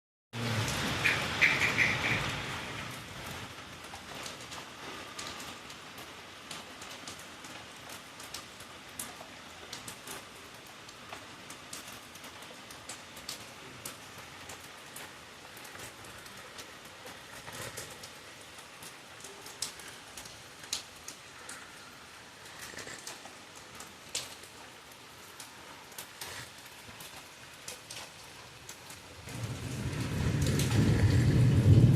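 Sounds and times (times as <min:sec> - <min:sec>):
raindrops ticking and splashing: 0:00.3 - 0:31.9
rain falling: 0:00.4 - 0:31.9.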